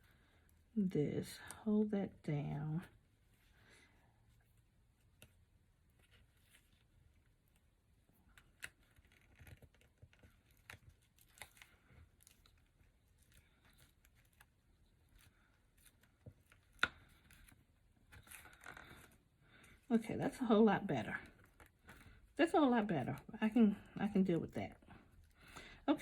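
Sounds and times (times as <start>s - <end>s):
ribbon and paper rustling: 4.2s - 26.0s.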